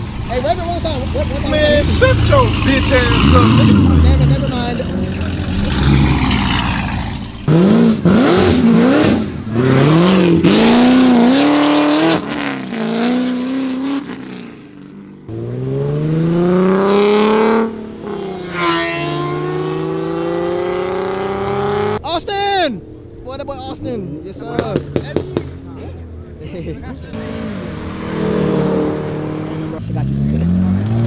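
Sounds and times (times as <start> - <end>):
car engines accelerating: 0.0 - 31.0.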